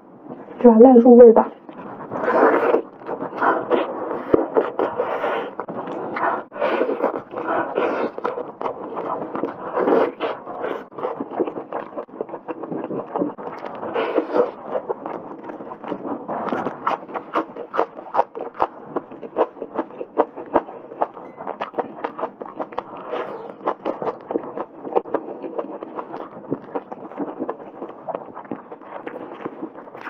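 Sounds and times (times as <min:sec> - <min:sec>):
wet chewing and smacking: 0:01.6 - 0:30.0.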